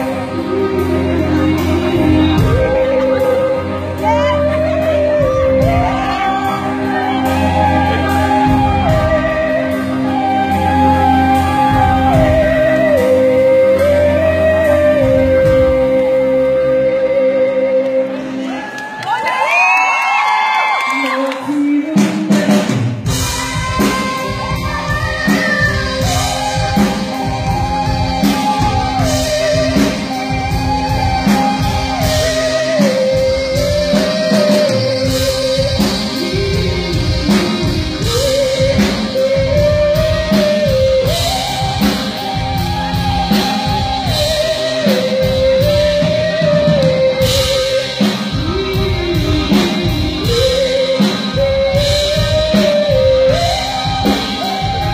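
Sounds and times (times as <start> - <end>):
person singing long notes: 0.0 - 18.7, 20.7 - 54.9
live rock band: 0.0 - 54.9.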